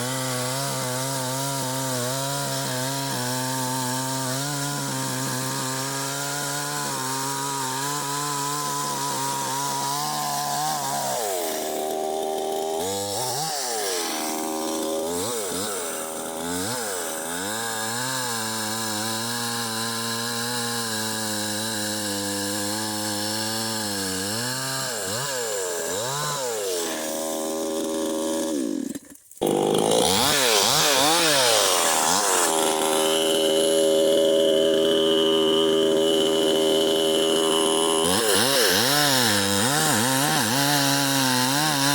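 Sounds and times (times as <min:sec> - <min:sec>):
chainsaw cutting into tree: 0:00.0 - 0:41.9.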